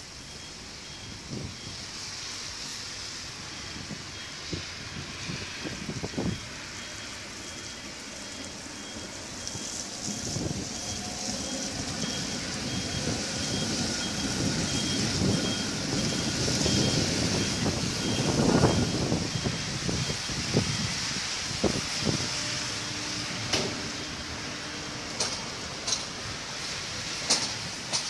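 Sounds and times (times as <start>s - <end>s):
reversing warning beeper: 0.0s - 27.2s
tram running on rails: 0.0s - 28.0s
wet windy background hiss: 0.0s - 28.0s.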